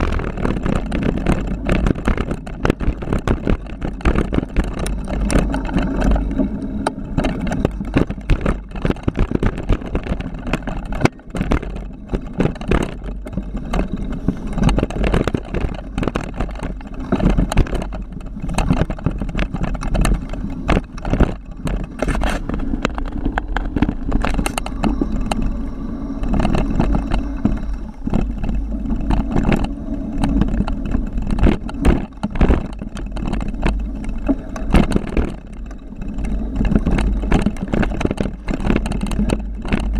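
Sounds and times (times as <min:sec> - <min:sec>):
mountain bike rattling and clattering: 0:00.0 - 0:39.9
wind rumble on microphone: 0:00.0 - 0:39.9.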